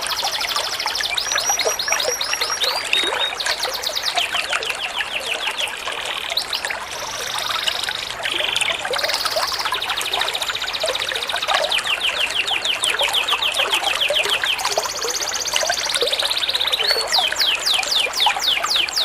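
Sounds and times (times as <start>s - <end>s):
songbird singing: 0.0s - 19.0s
trickling water: 0.0s - 19.0s.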